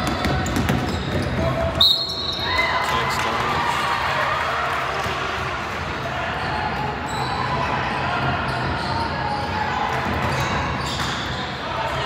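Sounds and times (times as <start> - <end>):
voices echoing in a hall: 0.0 - 12.0.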